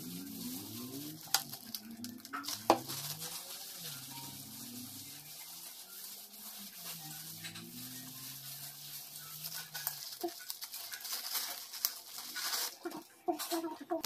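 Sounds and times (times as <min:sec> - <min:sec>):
wet squishing of hair dye: 0:00.0 - 0:13.0.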